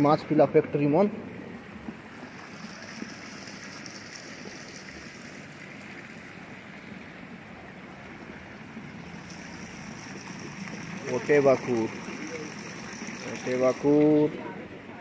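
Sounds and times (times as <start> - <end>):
water streams splashing: 1.0 - 14.4.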